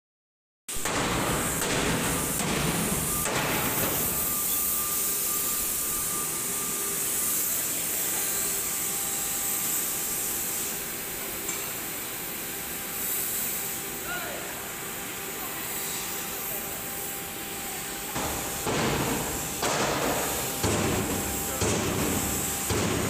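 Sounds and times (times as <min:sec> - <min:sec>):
machinery hiss and hum: 0:00.8 - 0:23.0.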